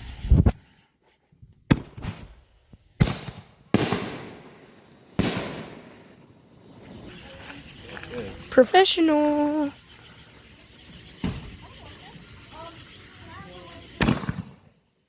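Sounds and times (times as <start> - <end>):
fireworks bangs: 1.7 - 14.8.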